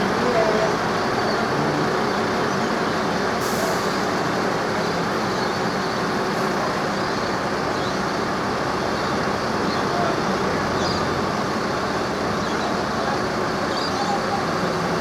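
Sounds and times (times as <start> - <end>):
heavy vehicle engine rumbling: 0.0 - 15.0.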